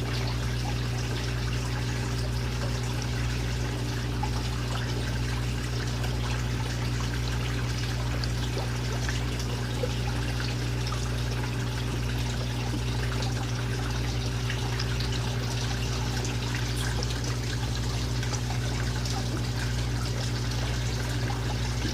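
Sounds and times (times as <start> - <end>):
aquarium water trickling: 0.0 - 21.9.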